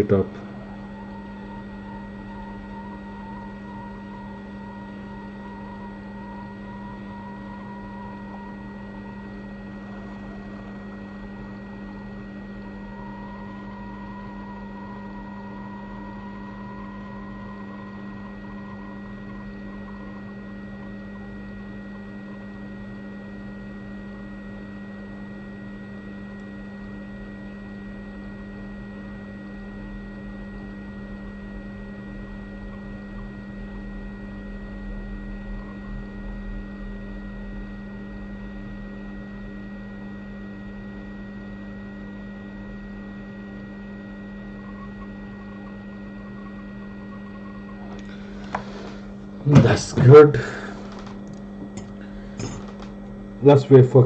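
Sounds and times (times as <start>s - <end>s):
electrical hum: 0.0s - 54.0s
faint high whine: 0.0s - 54.0s.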